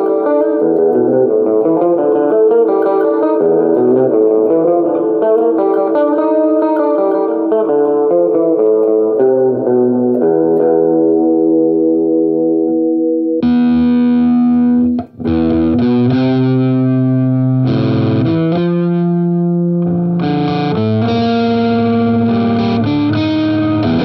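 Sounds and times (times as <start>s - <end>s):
guitar solo: 0.0s - 24.0s.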